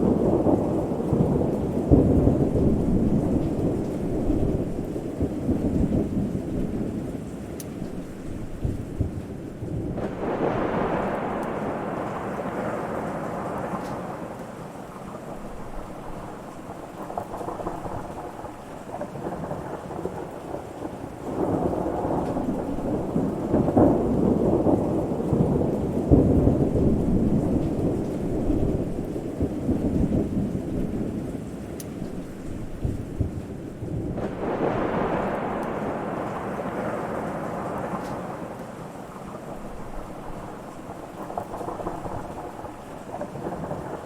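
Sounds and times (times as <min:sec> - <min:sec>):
rolling thunder: 0:00.0 - 0:44.0
steady rain: 0:00.0 - 0:44.0.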